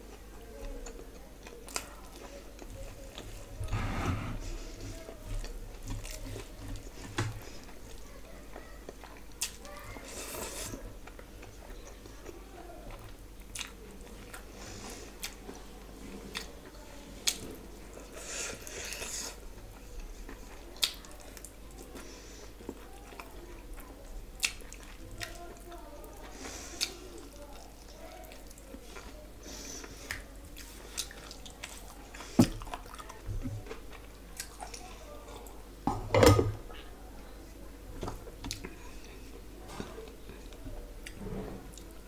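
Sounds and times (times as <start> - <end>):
chewing with wet mouth sounds: 0.1 - 3.6, 4.9 - 35.6, 38.0 - 42.0.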